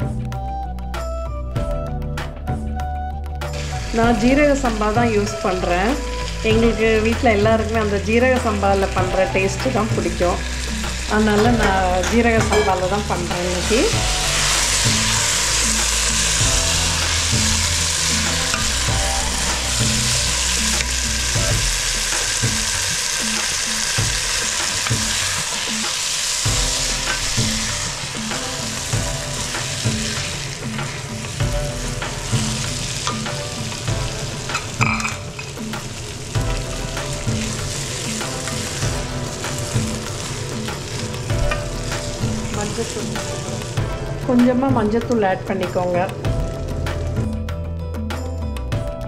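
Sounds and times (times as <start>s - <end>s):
rice sizzling in a pot: 3.5s - 46.6s.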